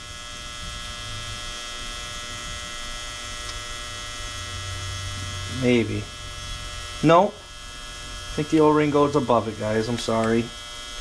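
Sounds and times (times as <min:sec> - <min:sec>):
buzzy mains hum: 0:00.0 - 0:11.0.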